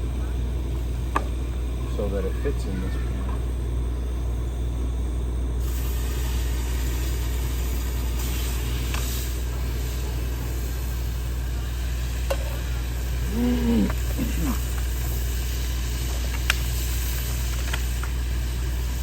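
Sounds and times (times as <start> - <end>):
camp stove burner rumbling: 0.0 - 19.0.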